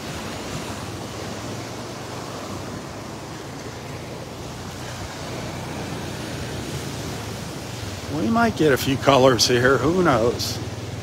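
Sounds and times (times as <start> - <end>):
waves breaking on shore: 0.0 - 11.0.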